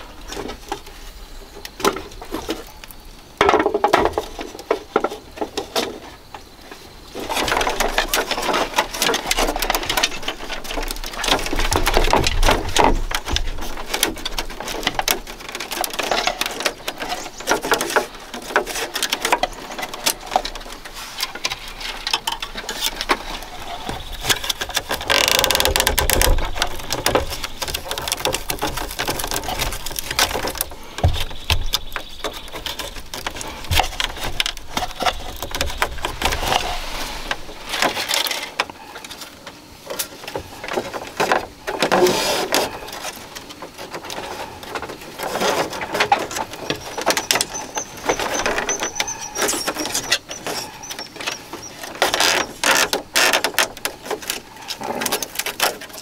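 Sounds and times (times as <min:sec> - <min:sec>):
bamboo strips clicking and rustling: 0:00.0 - 0:56.0.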